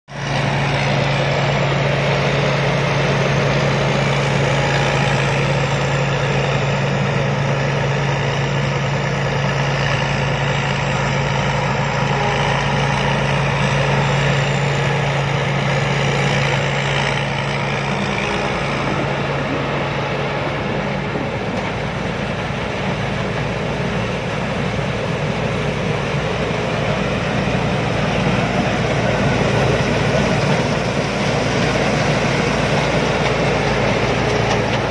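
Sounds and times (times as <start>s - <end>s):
combine harvester engine running: 0.1s - 34.9s.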